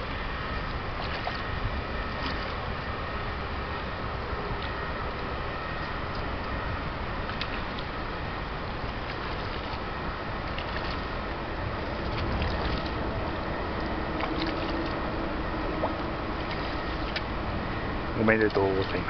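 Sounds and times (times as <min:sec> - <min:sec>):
light water splashes: 0:00.0 - 0:03.1, 0:05.6 - 0:19.0
water noise: 0:00.0 - 0:19.0
wind: 0:00.0 - 0:19.0.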